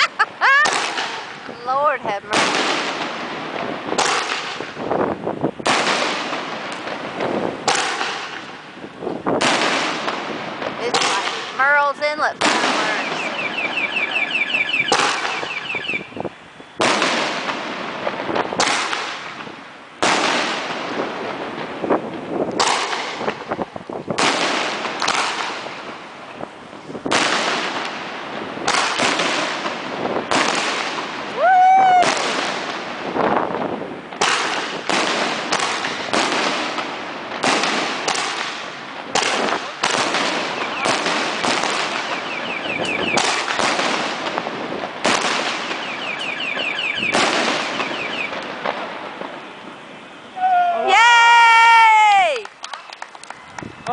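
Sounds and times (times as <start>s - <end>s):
fireworks bangs: 0.0s - 53.9s.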